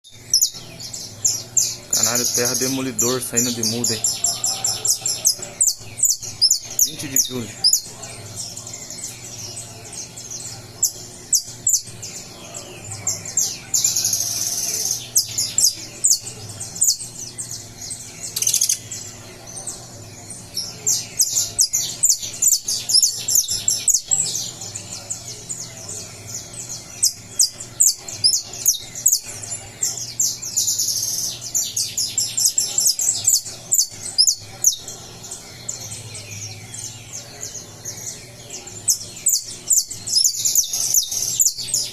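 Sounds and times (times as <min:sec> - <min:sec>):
buzzy bird trills: 0:00.0 - 0:41.9
finch chirping: 0:00.1 - 0:41.9.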